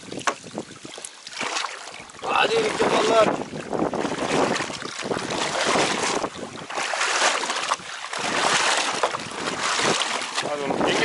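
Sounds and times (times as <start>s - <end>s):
wind on microphone: 0.0s - 1.0s, 2.0s - 11.0s
water sloshing and splashing: 0.0s - 11.0s.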